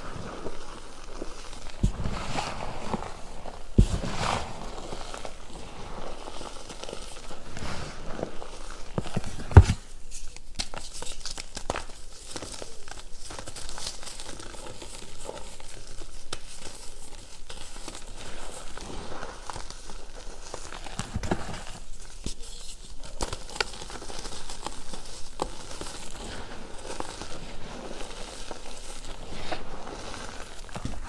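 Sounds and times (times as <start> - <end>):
hands crunching chalk: 0.0 - 31.0.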